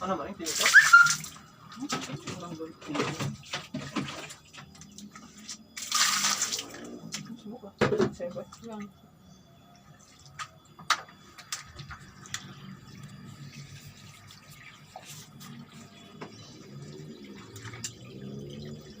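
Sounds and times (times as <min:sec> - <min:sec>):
water sloshing in washing machine: 0:00.1 - 0:09.0, 0:09.7 - 0:19.0.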